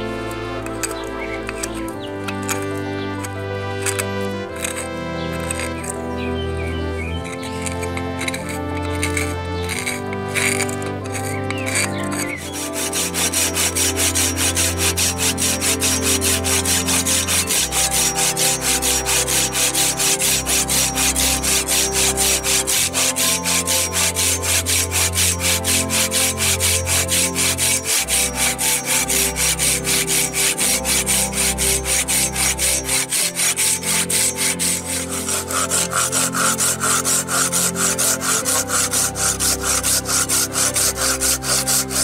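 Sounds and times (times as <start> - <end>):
background music: 0.0 - 42.0
hand tool stroking wood: 0.0 - 42.0.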